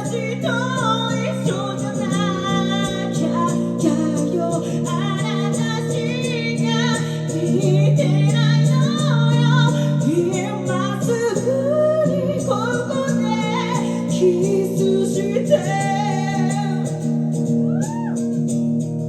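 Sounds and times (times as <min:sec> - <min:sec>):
woman singing a ballad: 0:00.0 - 0:18.4
strummed acoustic guitar: 0:00.0 - 0:19.0.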